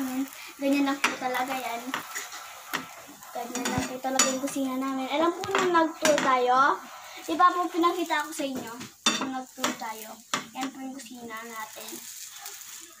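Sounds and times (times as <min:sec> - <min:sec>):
batter sizzling: 0:00.0 - 0:13.0
spatula scraping a frying pan: 0:00.3 - 0:13.0.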